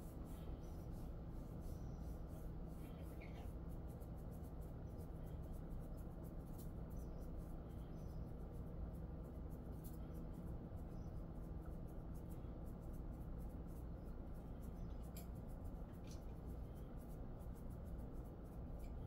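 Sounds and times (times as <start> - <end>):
fingers scratching dog fur: 0.0 - 19.0
steady low hum: 0.0 - 19.0.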